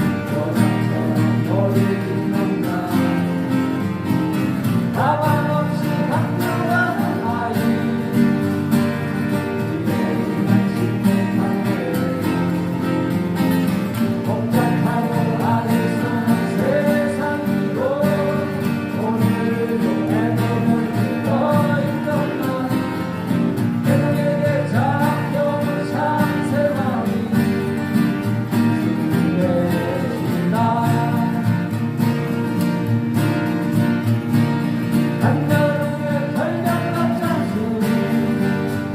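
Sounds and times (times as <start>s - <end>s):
acoustic guitars strumming: 0.0s - 38.9s.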